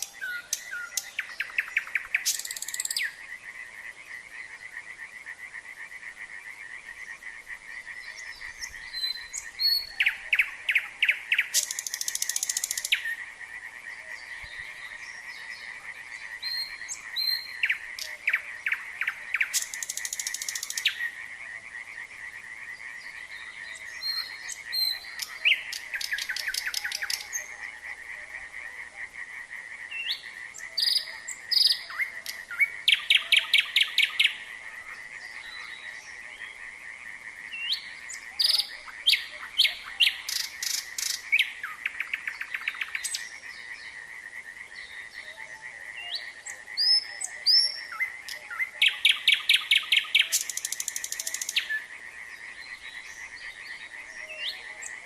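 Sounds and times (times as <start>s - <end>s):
frogs calling in trills: 0.0s - 55.0s
nightingale singing: 0.0s - 55.0s.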